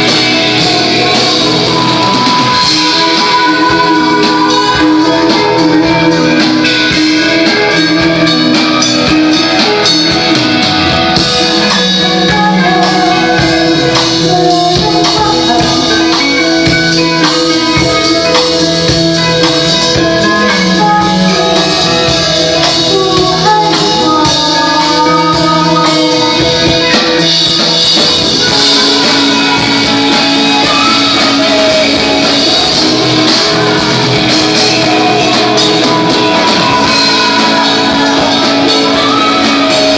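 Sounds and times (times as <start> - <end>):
live rock band: 0.0 - 39.9
person singing: 0.0 - 39.9.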